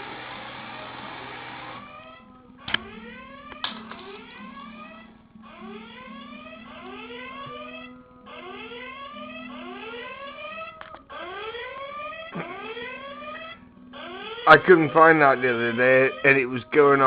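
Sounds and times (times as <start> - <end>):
alarm clock whooping tones: 2.9 - 17.0.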